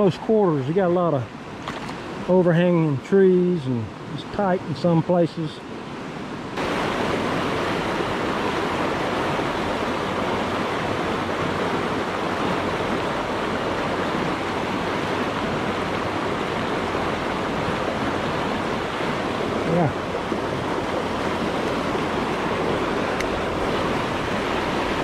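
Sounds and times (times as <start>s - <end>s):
creek rushing over rocks: 0.0s - 25.0s.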